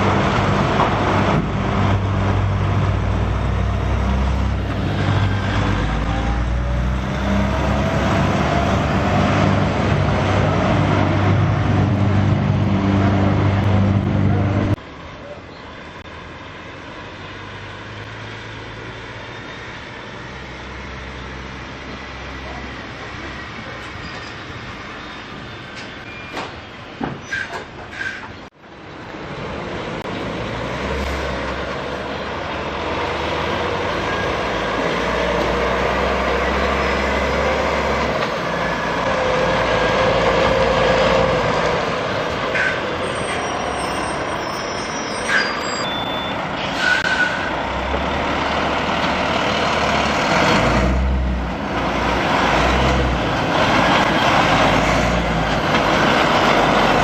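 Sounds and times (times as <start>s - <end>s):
truck diesel engine rumble: 0.0s - 57.0s.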